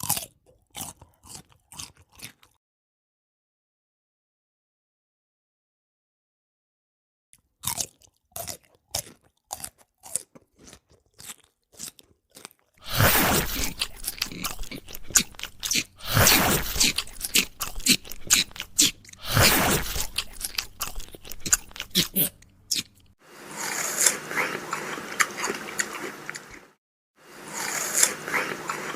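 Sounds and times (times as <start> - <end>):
crunchy food chewing: 0.0 - 2.6, 7.4 - 28.9.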